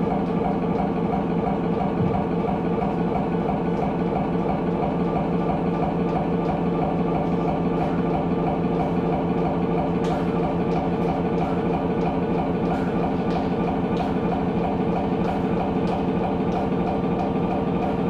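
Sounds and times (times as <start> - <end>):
engine-like drone: 0.0 - 18.0.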